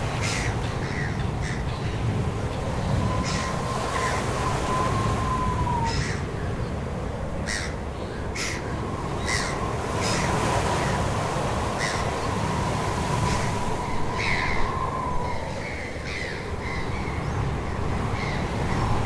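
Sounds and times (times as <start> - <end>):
bird calls: 0.0 - 6.8, 7.4 - 19.0.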